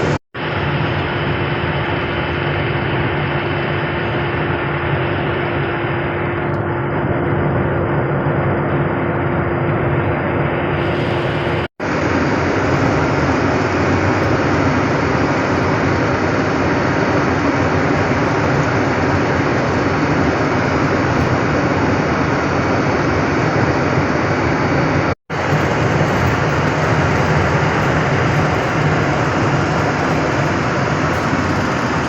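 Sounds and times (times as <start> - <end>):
road noise: 0.0 - 32.0
truck engine drone: 0.0 - 32.0.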